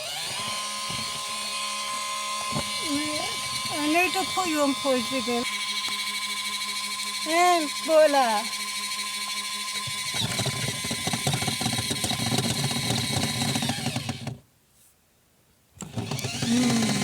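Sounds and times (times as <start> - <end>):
spin dryer motor running: 0.0 - 14.4, 15.8 - 17.0.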